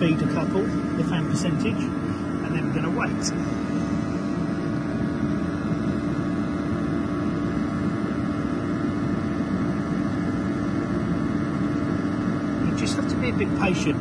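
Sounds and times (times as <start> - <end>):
oil boiler burner running: 0.0 - 14.0.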